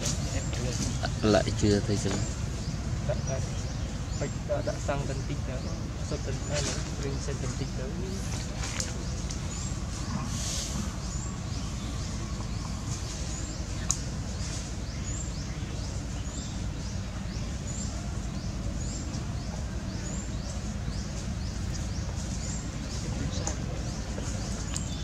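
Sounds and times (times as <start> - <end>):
bird chirping: 0.0 - 25.0
low outdoor rumble: 0.0 - 25.0.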